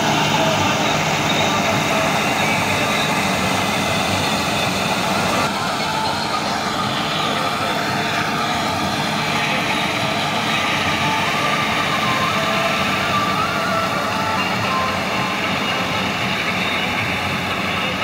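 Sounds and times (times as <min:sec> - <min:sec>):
tractor engine and straw chopper: 0:00.0 - 0:18.0.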